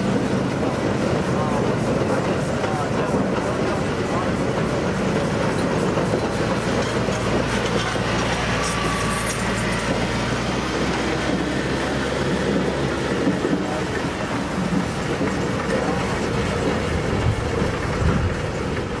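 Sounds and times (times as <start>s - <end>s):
steam roller clattering: 0.0s - 19.0s.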